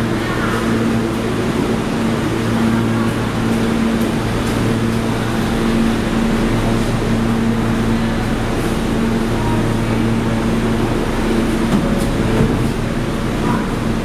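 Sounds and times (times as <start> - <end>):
subway car equipment humming: 0.0 - 14.0.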